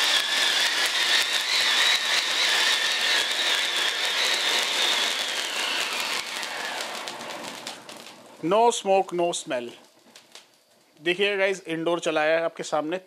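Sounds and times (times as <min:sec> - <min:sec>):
spark fountain hissing and whistling: 0:00.0 - 0:11.4.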